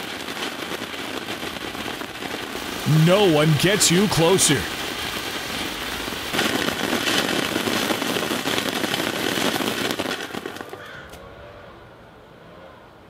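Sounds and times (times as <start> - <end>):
fountain fireworks crackling: 0.0 - 10.8.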